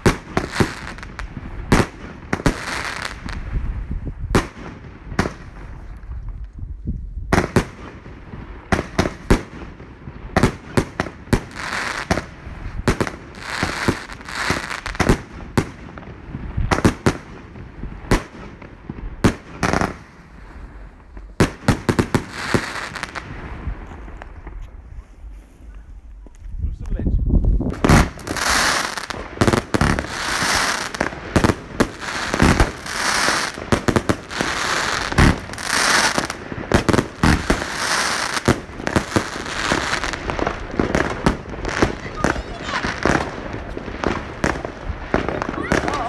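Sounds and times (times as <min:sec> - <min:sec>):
firework bangs: 0:00.0 - 0:05.9, 0:07.3 - 0:24.6, 0:27.6 - 0:46.0.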